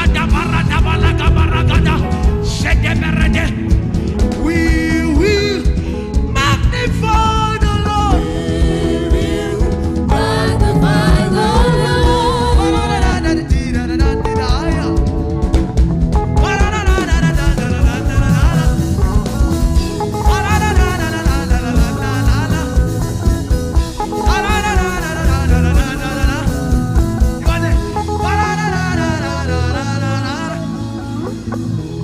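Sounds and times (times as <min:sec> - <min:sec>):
live gospel band music: 0:00.0 - 0:32.0.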